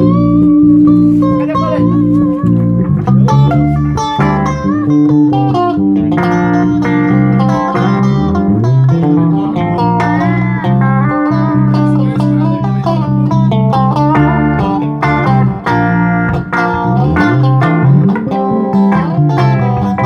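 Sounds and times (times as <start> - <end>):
low bass notes: 0.0 - 20.0
plucked guitar notes: 0.0 - 20.0.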